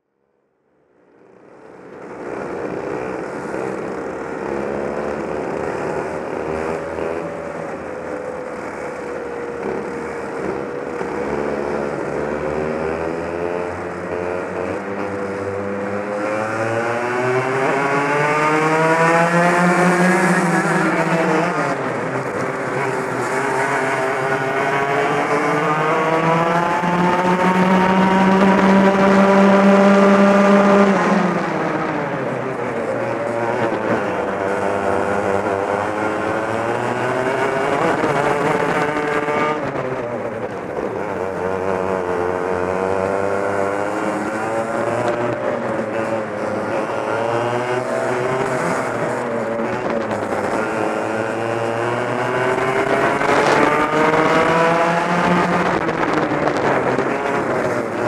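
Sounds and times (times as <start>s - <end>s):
kart engine at high revs: 1.1s - 58.0s.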